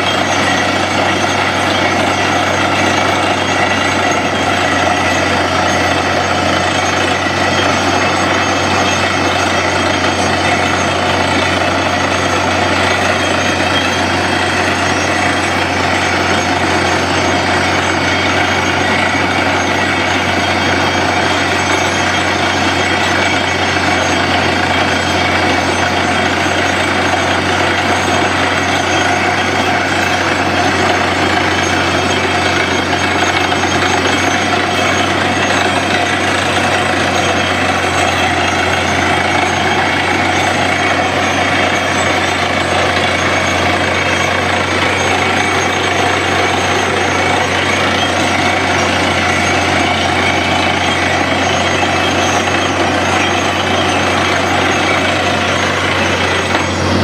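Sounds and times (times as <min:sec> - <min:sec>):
drill chattering: 0:00.0 - 0:57.0
drilling rig engine and compressor: 0:00.0 - 0:57.0.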